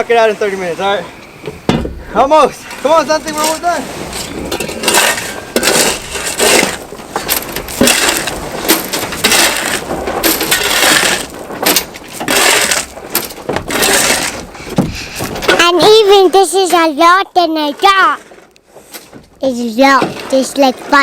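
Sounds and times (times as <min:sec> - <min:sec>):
shovels scraping asphalt: 0:02.2 - 0:21.0.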